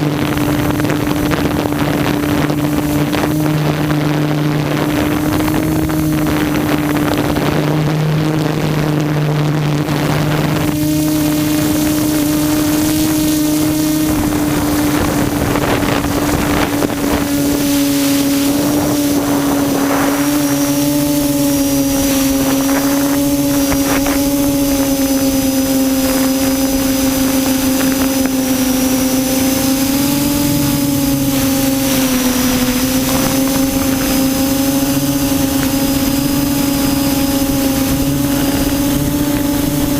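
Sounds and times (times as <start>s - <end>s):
quadcopter motors droning: 0.0s - 39.9s.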